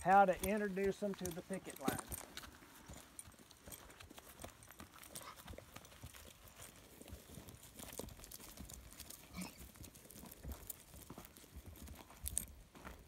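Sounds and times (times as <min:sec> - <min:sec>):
hooves and footsteps on dry grass: 0:00.0 - 0:13.0.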